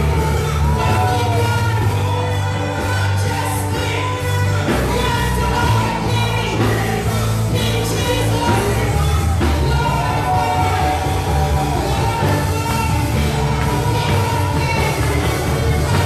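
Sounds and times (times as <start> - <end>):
gospel music with heavy bass: 0.0 - 16.0
voices singing: 0.0 - 16.0.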